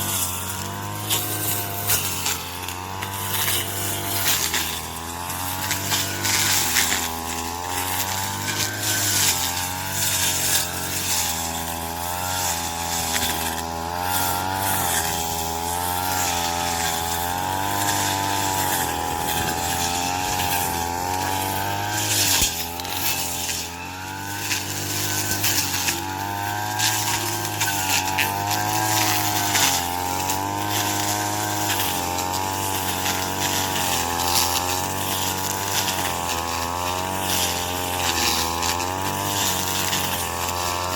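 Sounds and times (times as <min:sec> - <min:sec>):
crackling stalk cutting: 0:00.0 - 0:40.9
cutting machine engine: 0:00.0 - 0:40.9.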